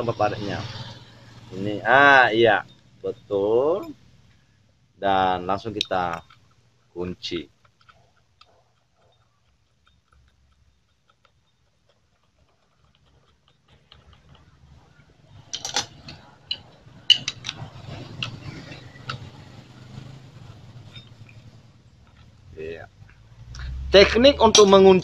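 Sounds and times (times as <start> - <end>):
low steady hum: 0.0 - 25.0
metallic clicks of clutch parts: 2.5 - 4.8, 5.6 - 25.0.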